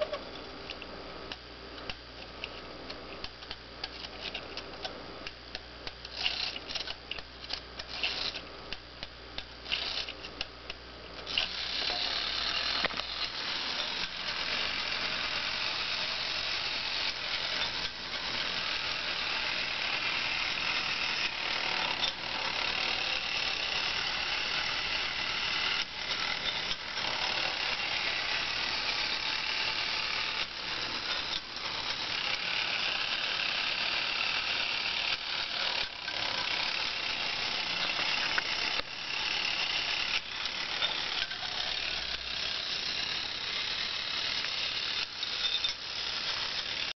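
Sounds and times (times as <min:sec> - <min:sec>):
clockwork toy whirring: 0:05.8 - 0:08.5, 0:09.4 - 0:10.5, 0:11.2 - 0:46.9.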